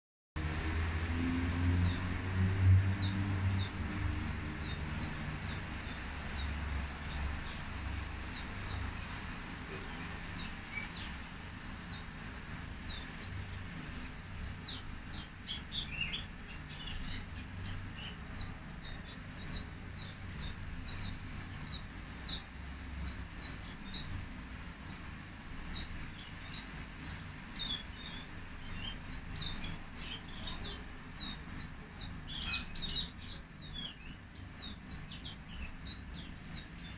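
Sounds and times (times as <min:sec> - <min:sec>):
bird high chirping song: 0:01.5 - 0:36.9.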